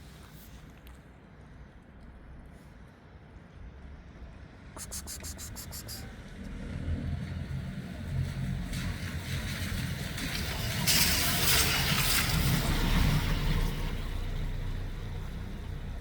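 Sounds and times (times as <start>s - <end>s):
vehicle engine rumble and tyre noise: 0.0s - 16.0s.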